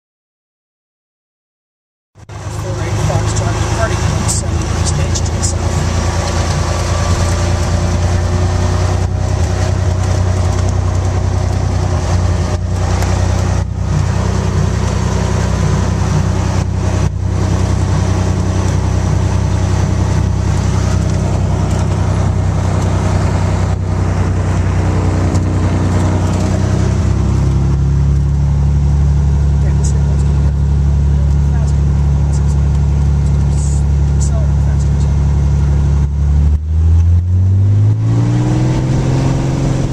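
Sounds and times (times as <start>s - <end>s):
propeller plane engine drone: 2.2s - 39.9s.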